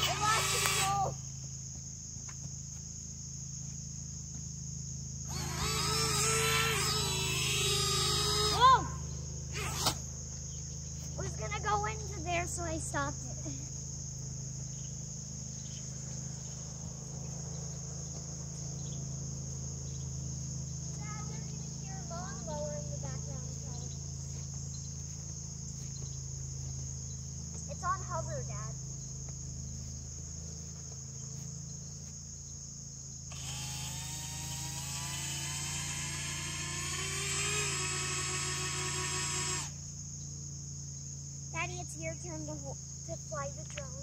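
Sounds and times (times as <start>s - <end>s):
drone motors whining: 0.0s - 1.4s, 5.0s - 31.9s, 33.3s - 44.0s
high insect trill: 0.0s - 44.0s.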